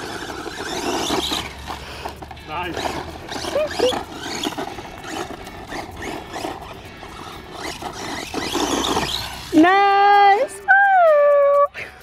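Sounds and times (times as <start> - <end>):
electric motor whining: 0.0 - 9.7
tyres scrabbling on loose dirt: 0.0 - 9.8.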